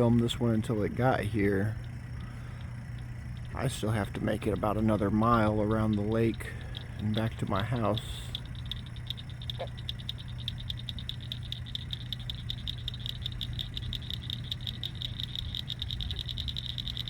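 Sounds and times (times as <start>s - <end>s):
frogs trilling: 0.0s - 17.0s
low steady hum: 0.0s - 17.0s.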